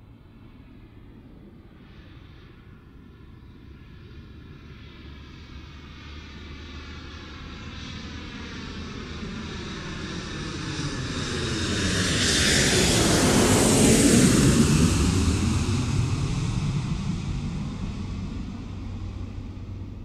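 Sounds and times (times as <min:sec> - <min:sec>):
airplane passing overhead: 0:00.0 - 0:20.0.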